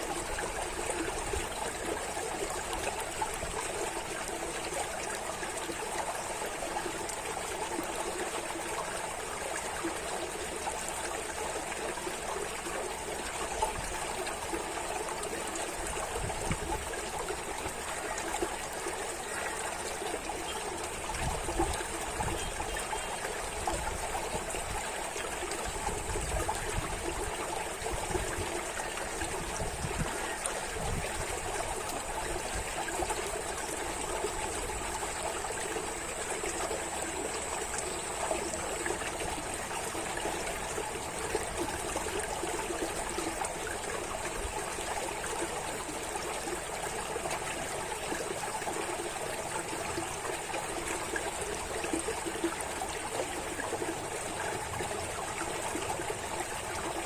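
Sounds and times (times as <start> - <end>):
stream trickling and burbling: 0.0 - 57.0.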